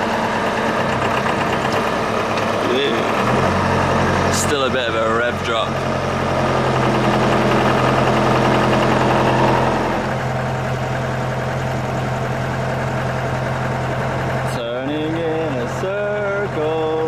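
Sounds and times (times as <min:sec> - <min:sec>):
boat diesel engine running: 0:00.0 - 0:17.0.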